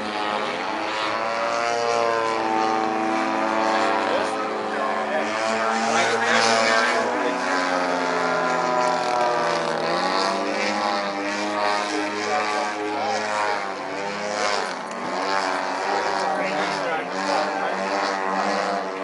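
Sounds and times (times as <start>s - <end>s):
model airplane motor and propeller: 0.0s - 19.0s.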